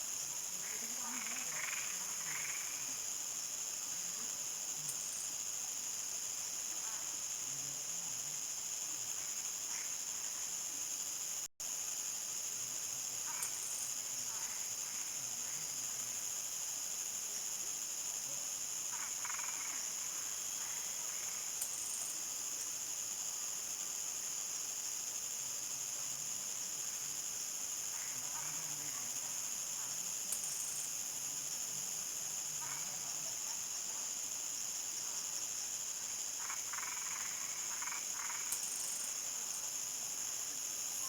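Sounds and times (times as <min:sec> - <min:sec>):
crickets chirring: 0:00.0 - 0:41.0.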